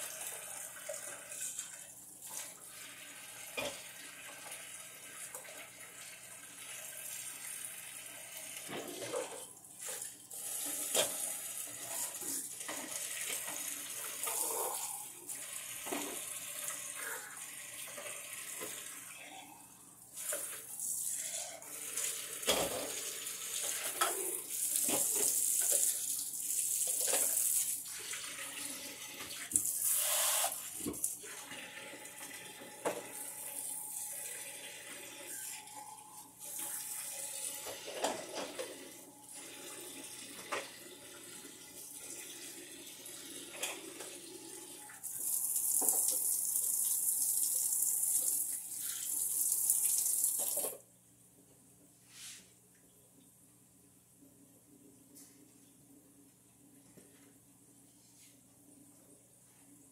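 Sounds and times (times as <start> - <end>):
water running: 0.0 - 50.8.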